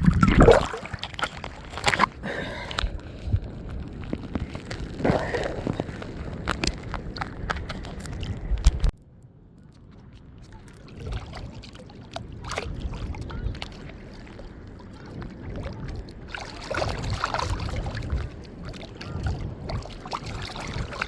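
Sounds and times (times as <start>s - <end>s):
wind buffeting microphone: 0.0s - 8.9s, 10.3s - 21.0s
water sloshing: 0.0s - 9.0s, 9.6s - 21.0s.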